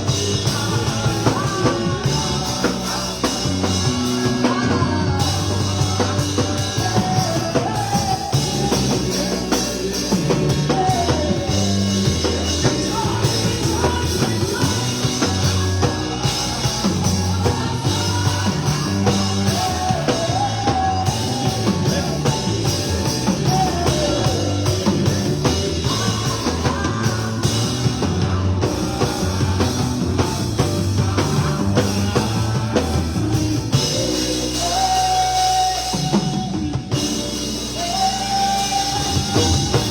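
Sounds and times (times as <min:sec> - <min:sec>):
live band with singing: 0:00.0 - 0:39.9.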